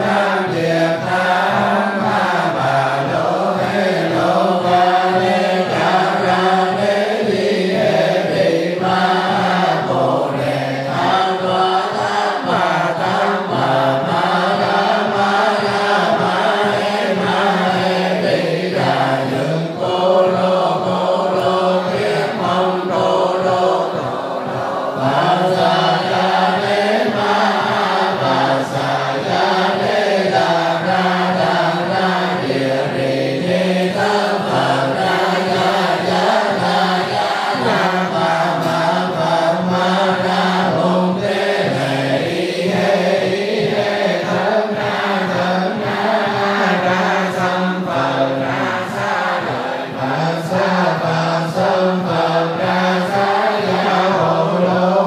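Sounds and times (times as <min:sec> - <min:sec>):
group chanting in unison: 0:00.0 - 0:55.0.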